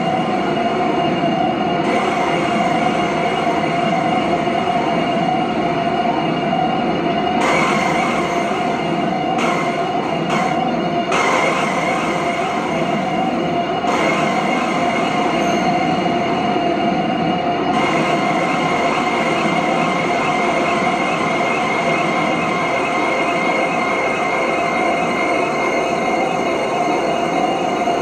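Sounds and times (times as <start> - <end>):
electronic noise drone: 0.0 - 28.0
sustained whining tones: 0.0 - 28.0.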